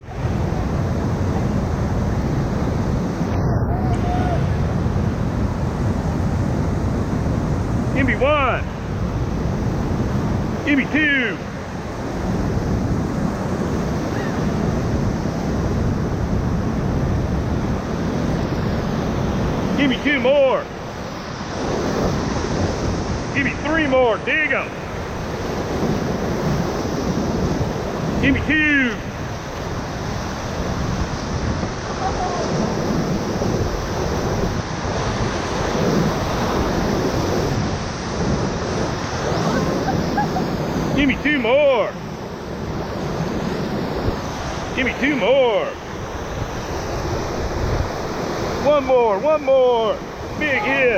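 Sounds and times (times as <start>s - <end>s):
wind noise on microphone: 0.0s - 49.0s
whitewater rushing: 0.0s - 50.9s.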